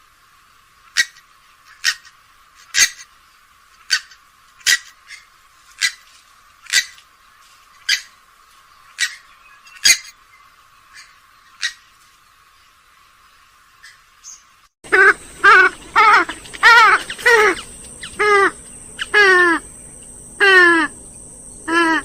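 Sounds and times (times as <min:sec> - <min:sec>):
swamphen calling: 0:00.9 - 0:03.2, 0:03.8 - 0:07.0, 0:07.7 - 0:12.0, 0:13.7 - 0:22.0.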